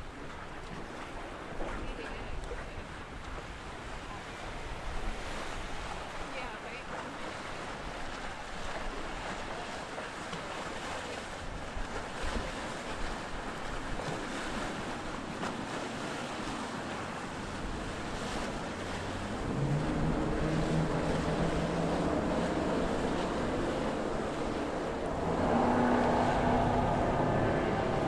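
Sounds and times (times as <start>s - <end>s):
boat outboard engines droning: 0.0s - 28.0s
water: 0.0s - 28.0s
wind: 0.0s - 28.0s.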